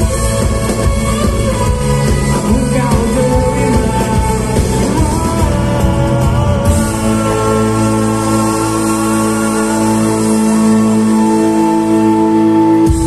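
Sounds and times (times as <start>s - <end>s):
pop-rock band with orchestra: 0.0s - 13.0s
man singing: 1.6s - 12.4s.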